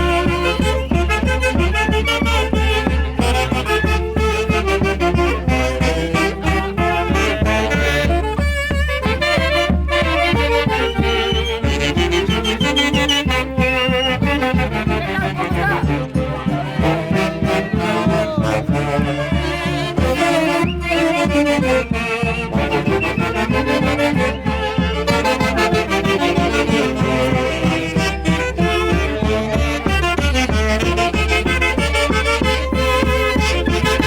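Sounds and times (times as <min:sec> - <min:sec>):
folk orchestra playing fast tune: 0:00.0 - 0:34.0.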